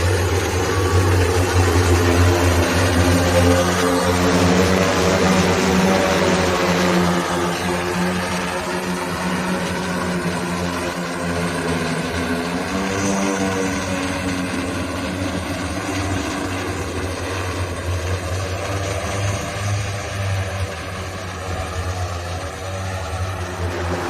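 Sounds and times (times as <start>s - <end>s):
electric propellers droning: 0.0s - 24.0s.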